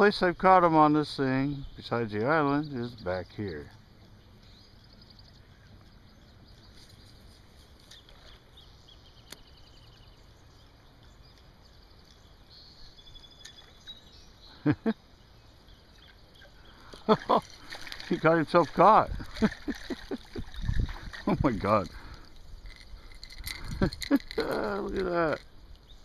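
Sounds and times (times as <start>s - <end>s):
small birds chirping: 0.4s - 26.0s.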